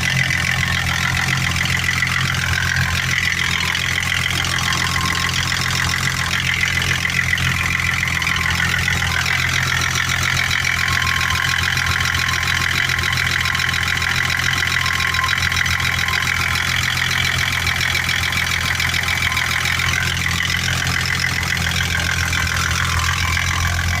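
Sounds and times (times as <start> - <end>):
engine idling with knock: 0.0 - 24.0.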